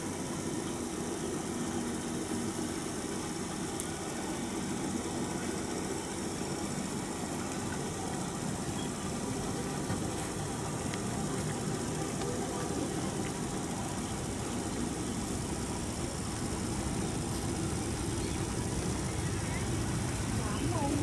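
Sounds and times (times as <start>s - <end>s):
train diesel engine rumbling: 0.0s - 21.0s.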